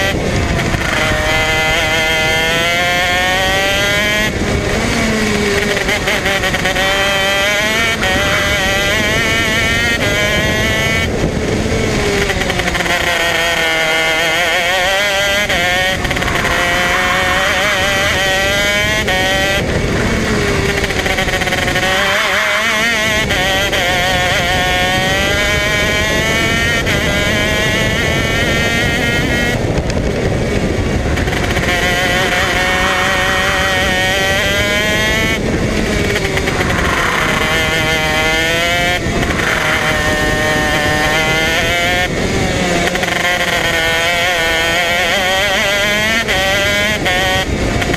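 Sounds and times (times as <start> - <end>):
kart engine at racing speed: 0.0 - 47.9.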